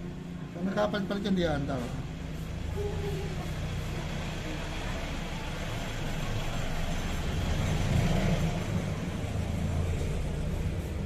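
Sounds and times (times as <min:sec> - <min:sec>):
road traffic noise: 0:00.0 - 0:11.0
motor vehicle rumble: 0:01.7 - 0:11.0.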